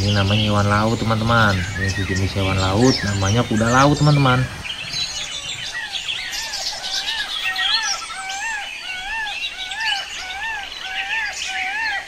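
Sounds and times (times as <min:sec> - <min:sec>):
birds chirping: 0:00.0 - 0:12.0
higher bird chirps: 0:00.0 - 0:12.0.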